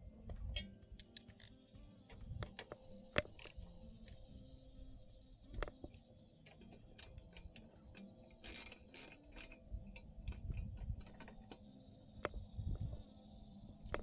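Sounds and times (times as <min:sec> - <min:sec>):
metal parts clicking and tapping: 0:00.2 - 0:04.4, 0:05.5 - 0:14.0.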